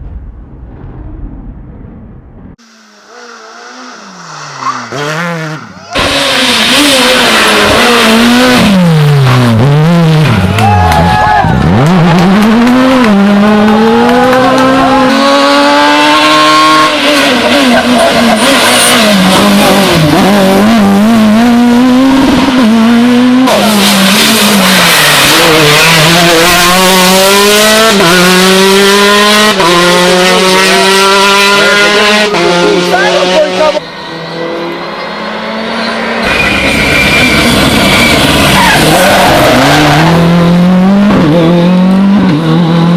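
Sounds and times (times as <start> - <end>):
rally car engine at full throttle: 2.4 - 42.9.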